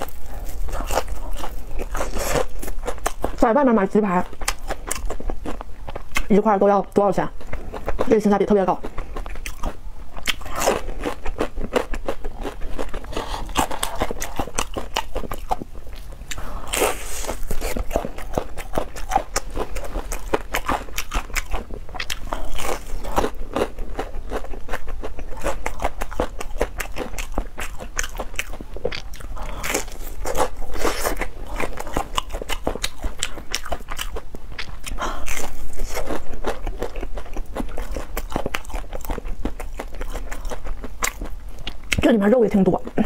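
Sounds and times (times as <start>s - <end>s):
chewing crispy food: 0.0s - 43.0s.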